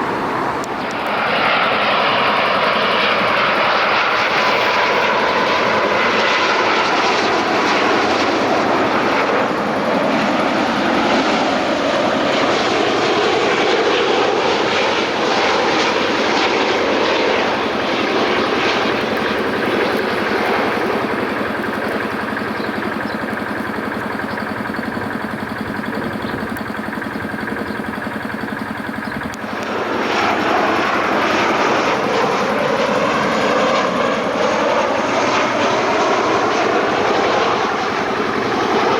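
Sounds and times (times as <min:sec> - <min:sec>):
jet airliner engines rushing: 0:00.0 - 0:38.9.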